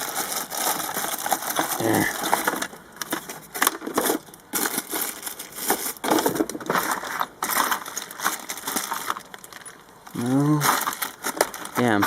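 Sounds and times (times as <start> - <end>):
hands rummaging through small hardware: 0.0 - 12.0.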